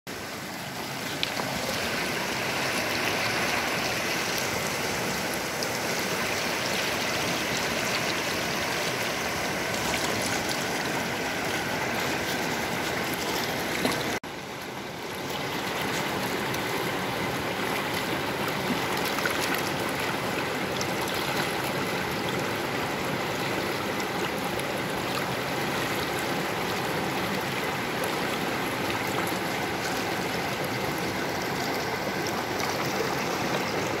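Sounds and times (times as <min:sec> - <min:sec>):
stream rushing over stones: 0:00.1 - 0:34.0.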